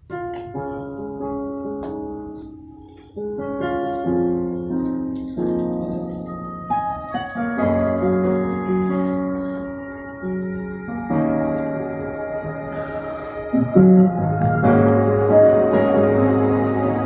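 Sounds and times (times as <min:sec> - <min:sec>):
keyboard playing slow chords: 0:00.0 - 0:17.0.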